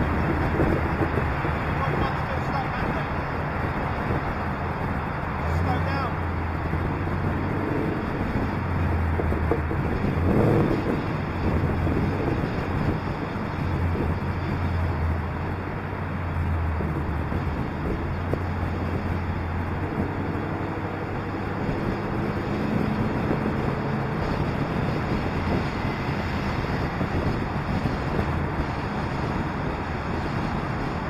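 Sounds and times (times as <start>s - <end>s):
car engine hum: 0.0s - 31.0s
tyre and road noise: 0.0s - 31.0s
wind rushing over camera: 0.0s - 31.0s.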